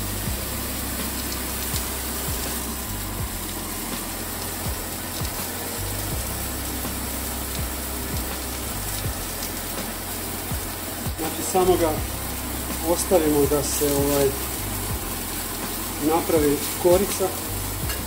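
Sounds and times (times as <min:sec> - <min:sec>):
background music: 0:00.0 - 0:18.0
steak sizzling in frying pan: 0:00.0 - 0:18.0.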